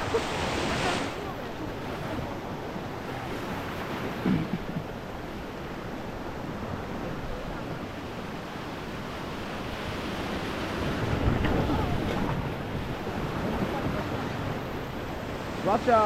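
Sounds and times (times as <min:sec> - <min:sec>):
wind buffeting microphone: 0:00.0 - 0:15.7
river water rushing and splashing: 0:00.0 - 0:16.0.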